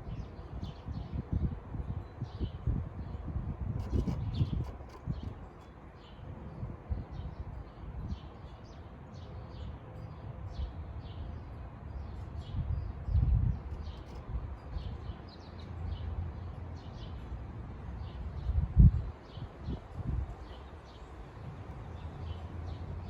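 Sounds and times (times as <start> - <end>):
small birds chirping: 3.8 - 23.0.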